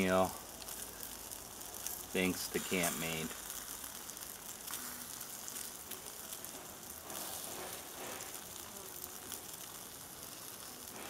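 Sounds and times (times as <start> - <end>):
wings sizzling on grill: 0.0 - 11.0.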